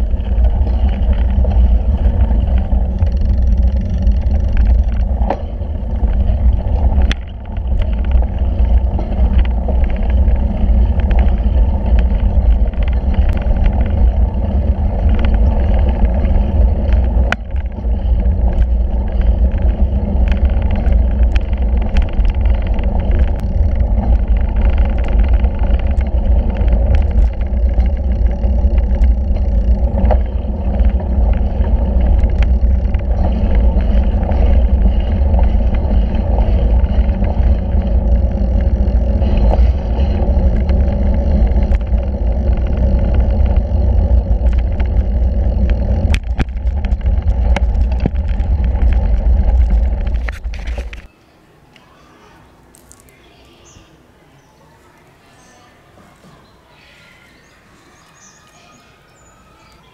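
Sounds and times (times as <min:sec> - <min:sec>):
bike clicks and rattles: 0:00.0 - 0:51.1, 0:52.7 - 0:53.8
wind rumble on microphone: 0:00.0 - 0:51.1.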